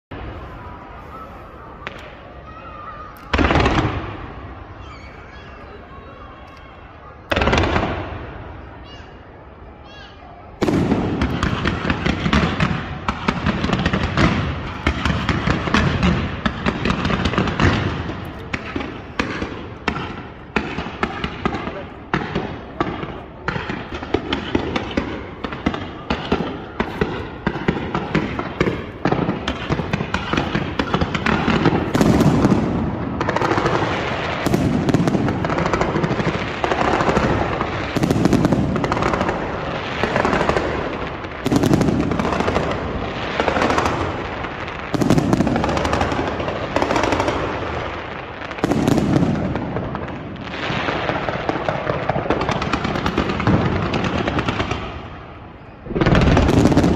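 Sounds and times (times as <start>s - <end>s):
fireworks popping and crackling: 0.1s - 2.3s, 3.2s - 4.4s, 7.3s - 8.2s, 10.6s - 56.9s
loud firework bangs: 0.1s - 6.3s, 7.2s - 9.2s, 10.0s - 56.9s.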